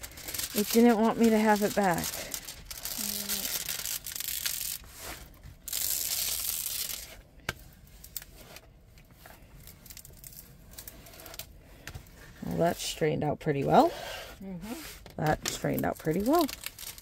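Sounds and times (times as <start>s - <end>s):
plastic wrapping crinkling and tearing: 0.0s - 12.6s, 14.7s - 17.0s.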